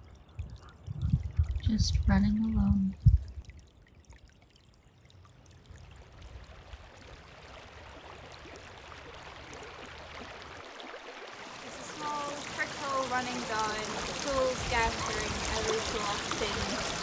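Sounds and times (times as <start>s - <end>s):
small stream trickling: 0.0s - 17.0s.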